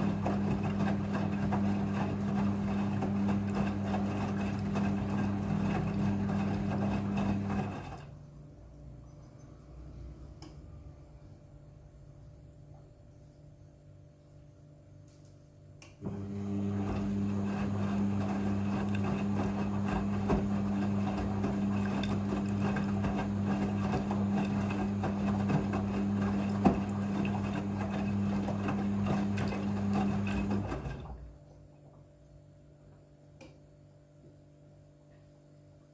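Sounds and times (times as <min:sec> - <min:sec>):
washing machine hum: 0:00.0 - 0:15.0, 0:15.6 - 0:33.4.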